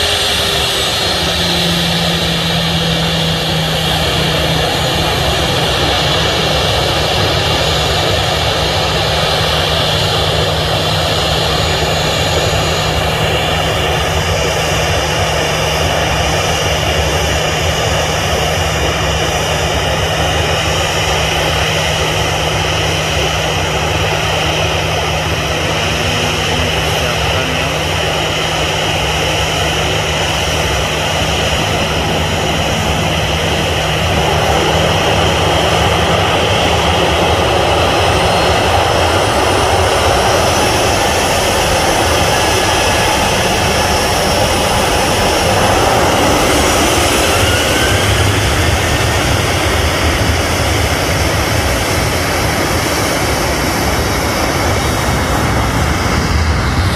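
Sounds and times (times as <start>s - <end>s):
jet engines whining: 0.0s - 56.9s.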